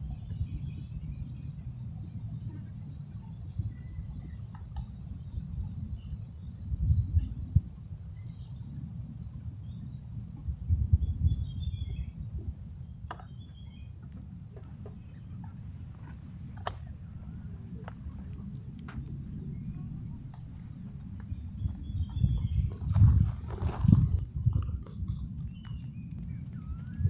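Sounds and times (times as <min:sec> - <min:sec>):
birds chirping: 0:00.0 - 0:27.0
steady low rumble: 0:00.0 - 0:27.0.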